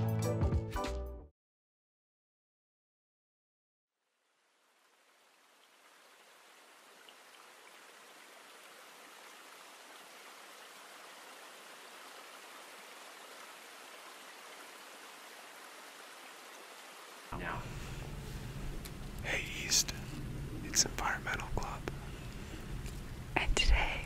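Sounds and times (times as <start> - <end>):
running water rushing: 4.5 - 24.0.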